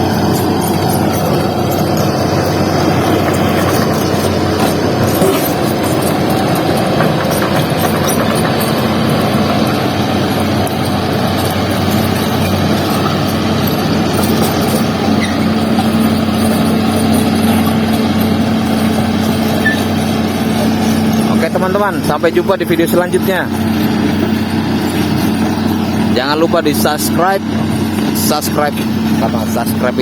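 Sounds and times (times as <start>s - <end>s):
heavy diesel machinery running: 0.0s - 30.0s.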